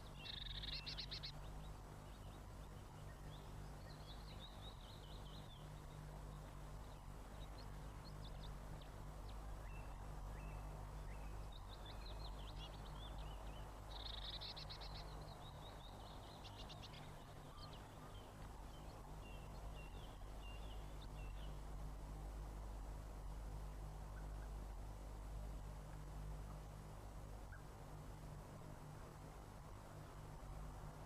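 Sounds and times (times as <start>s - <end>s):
songbirds chirping: 0.0s - 31.0s
steady low hum: 0.0s - 31.0s.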